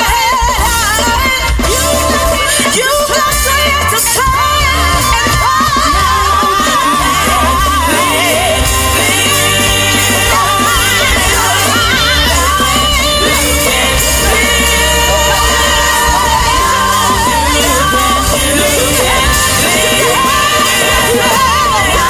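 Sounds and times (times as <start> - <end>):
bass and band accompaniment: 0.0 - 22.0
vocalist singing with vibrato: 0.0 - 22.0.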